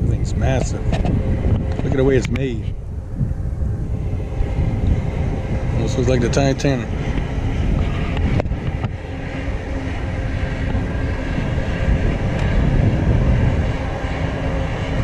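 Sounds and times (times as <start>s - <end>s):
boat engines rumbling: 0.0s - 15.0s
wind buffeting microphone: 0.0s - 15.0s.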